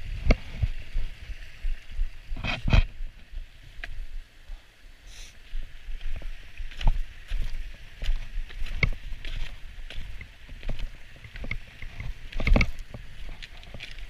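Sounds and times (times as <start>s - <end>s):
creek water rushing: 0.0s - 14.0s
footsteps on snow: 0.0s - 14.0s.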